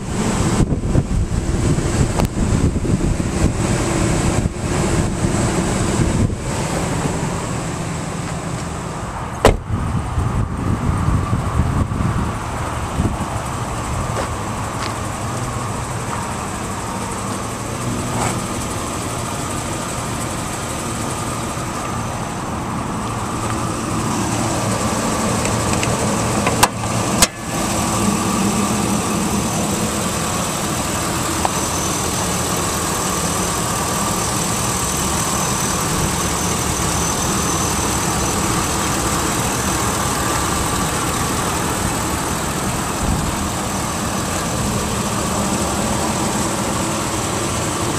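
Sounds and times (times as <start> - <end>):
truck engine idling: 0.0 - 47.9.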